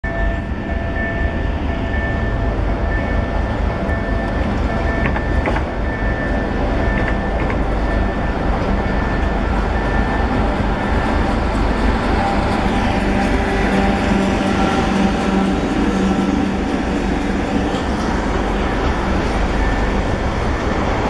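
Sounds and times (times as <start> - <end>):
diesel locomotive rumbling: 0.0 - 21.0
steady high-pitched tone: 0.0 - 21.0.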